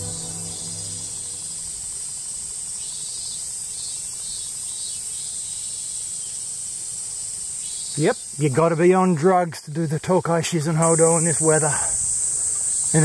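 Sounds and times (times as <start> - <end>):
pulsing insect call: 0.0 - 8.6, 10.8 - 13.0
cicadas droning: 0.0 - 13.0.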